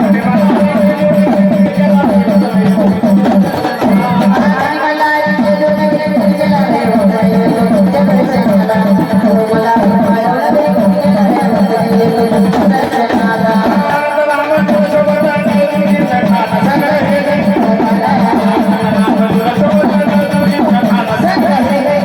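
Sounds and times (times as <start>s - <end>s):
hand drum percussion: 0.0s - 22.0s.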